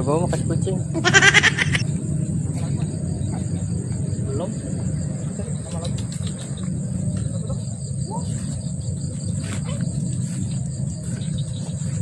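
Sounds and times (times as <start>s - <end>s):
insect trill: 0.0s - 12.0s
low rumble: 1.7s - 12.0s.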